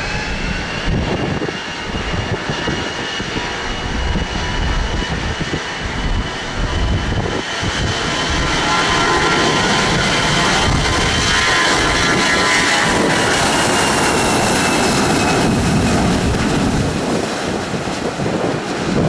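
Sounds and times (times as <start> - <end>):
airplane engines passing: 0.0 - 19.0.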